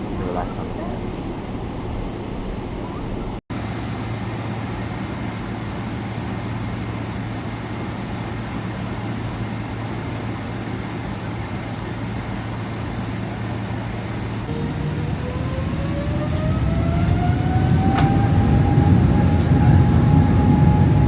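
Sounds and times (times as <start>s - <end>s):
airliner cabin noise: 0.0s - 21.0s.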